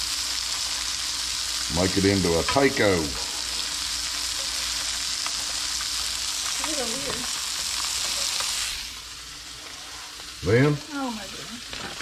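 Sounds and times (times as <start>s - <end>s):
hot oil sizzling in a skillet: 0.0s - 12.0s.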